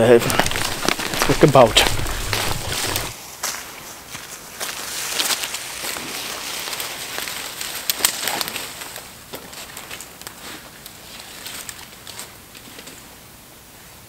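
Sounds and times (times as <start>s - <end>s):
footsteps in dry leaves: 0.0s - 12.4s
dry branches rustling and cracking: 0.0s - 13.2s.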